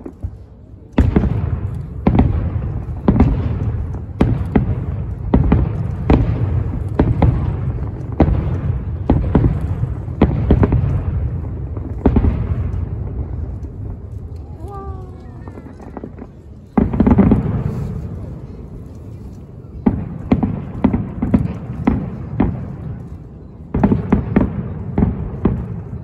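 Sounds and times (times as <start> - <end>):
fireworks bursting with bangs: 0.0 - 26.0.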